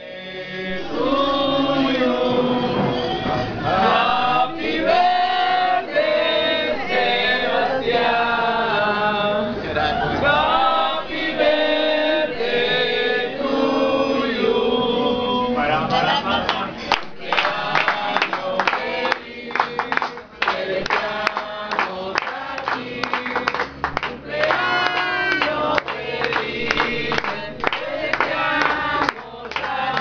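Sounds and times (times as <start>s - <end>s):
group singing birthday song: 0.0s - 30.0s.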